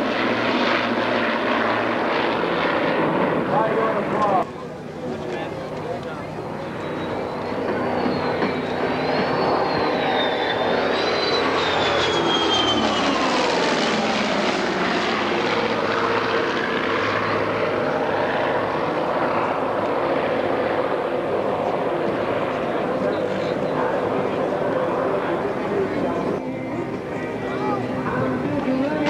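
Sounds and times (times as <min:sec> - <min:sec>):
jet and piston aircraft flying past: 0:00.0 - 0:29.0
engine whine falling in pitch: 0:03.4 - 0:29.0.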